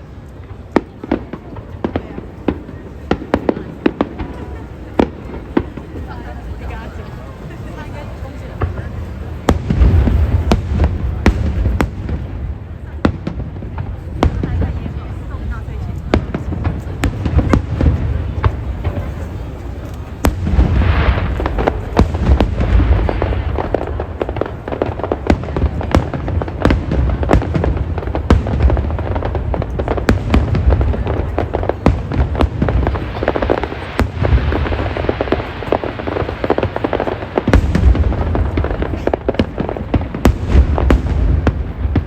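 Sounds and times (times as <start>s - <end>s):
fireworks bangs and crackles: 0.0s - 42.0s
deep fireworks booming: 0.4s - 42.0s.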